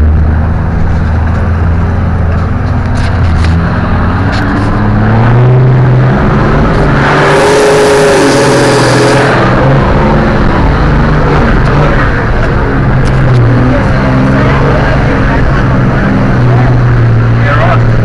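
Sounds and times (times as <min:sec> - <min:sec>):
loud rushing noise: 0:00.0 - 0:18.0
off-road engine revving: 0:00.0 - 0:18.0.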